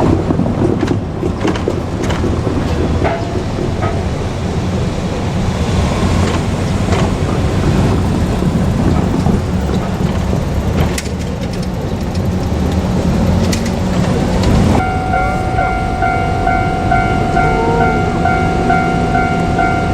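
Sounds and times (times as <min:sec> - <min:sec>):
vehicle engine humming: 0:01.9 - 0:19.9.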